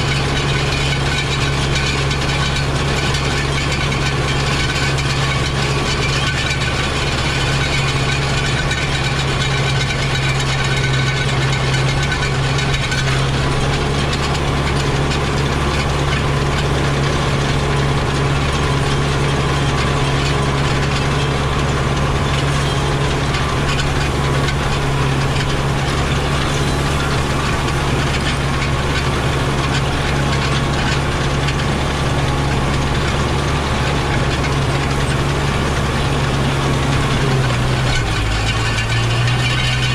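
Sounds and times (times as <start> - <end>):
engine low drone: 0.0 - 39.9.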